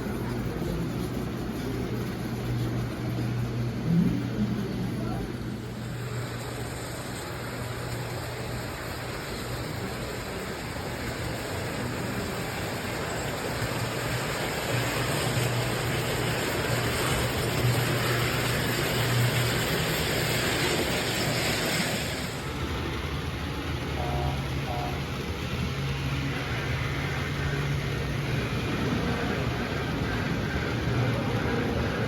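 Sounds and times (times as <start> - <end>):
model train running on track: 0.0 - 32.0.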